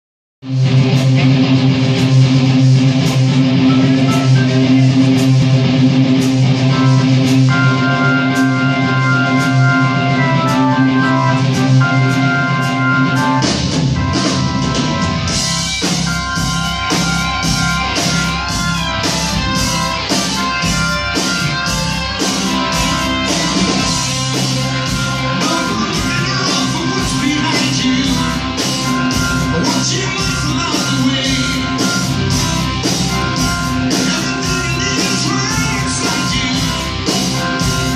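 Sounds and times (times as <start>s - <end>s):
drums and bass: 0.4s - 37.9s
live rock band playing: 0.4s - 37.9s
held guitar chords ringing: 0.5s - 37.9s.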